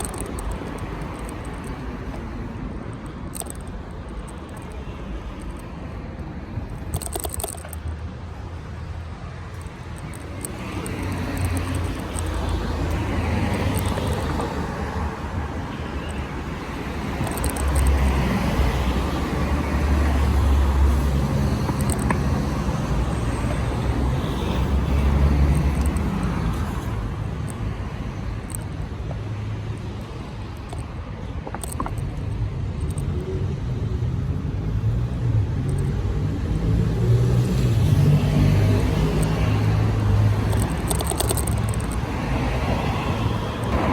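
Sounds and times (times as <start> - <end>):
cars going by: 0.0 - 43.9.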